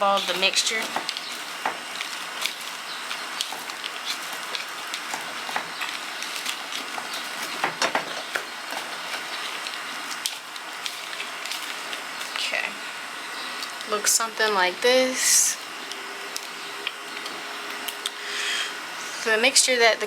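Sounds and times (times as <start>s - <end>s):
bark and soil being stirred: 0.0s - 18.1s.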